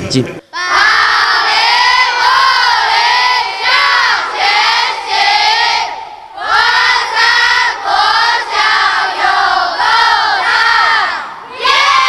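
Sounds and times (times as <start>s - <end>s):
children chanting in unison: 0.5s - 12.0s.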